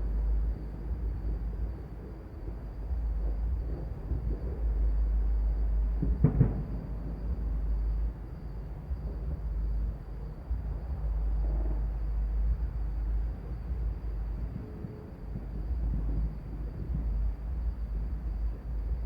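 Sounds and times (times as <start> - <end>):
low rumble: 0.0 - 19.0
distant fireworks popping: 0.6 - 19.0.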